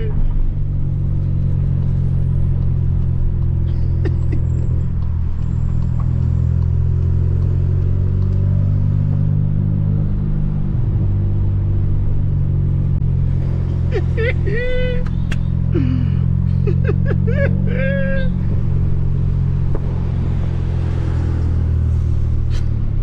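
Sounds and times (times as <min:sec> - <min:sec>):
car engine droning at steady revs: 0:00.0 - 0:23.0.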